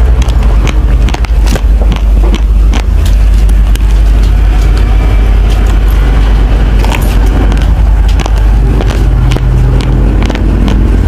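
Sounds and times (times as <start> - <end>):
crunching of dry rice grains: 0.0 - 11.0
steady low rumble: 0.0 - 11.0.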